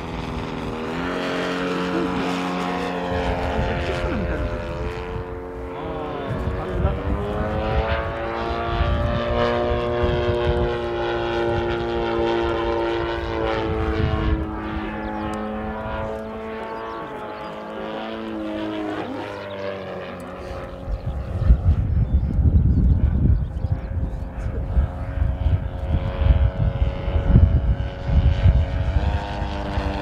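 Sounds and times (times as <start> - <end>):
model airplane engine drone: 0.0 - 30.0.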